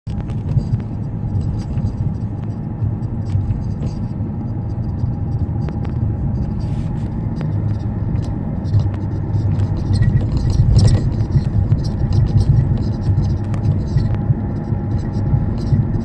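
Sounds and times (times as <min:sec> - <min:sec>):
car low rumble: 0:00.0 - 0:16.0.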